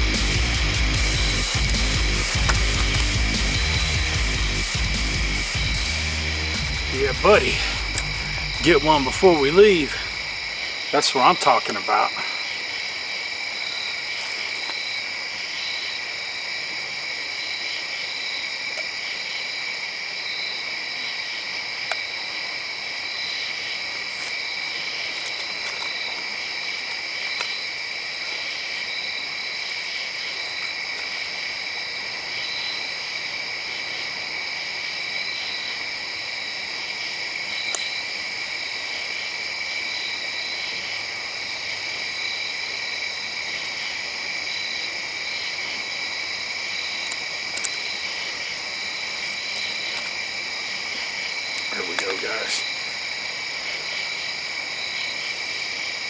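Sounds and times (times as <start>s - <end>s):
high insect buzz: 0.0s - 33.2s, 35.1s - 56.0s
insects trilling: 0.0s - 56.0s.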